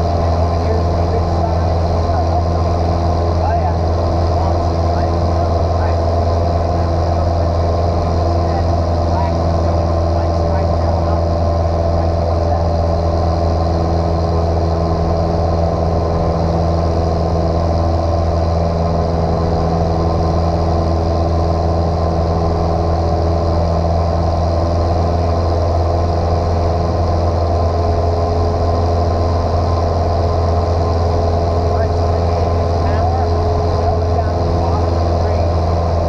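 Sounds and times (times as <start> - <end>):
airplane engine droning: 0.0 - 36.0.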